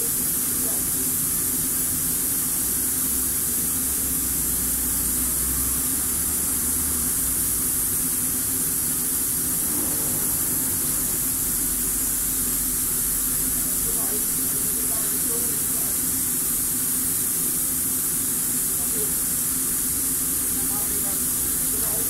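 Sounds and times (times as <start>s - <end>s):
low machine hum: 0.0s - 22.0s
machine hiss: 0.0s - 22.0s.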